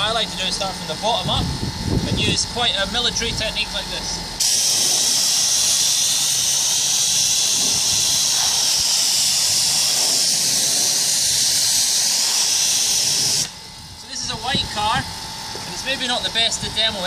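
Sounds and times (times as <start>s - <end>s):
pressure washer spraying water: 2.6s - 17.0s.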